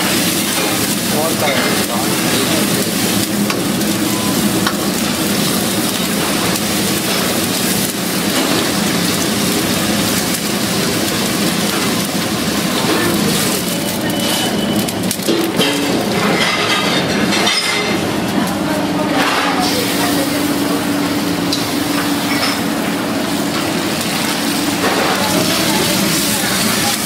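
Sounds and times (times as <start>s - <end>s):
hot fat sizzling in wok: 0.0s - 27.0s.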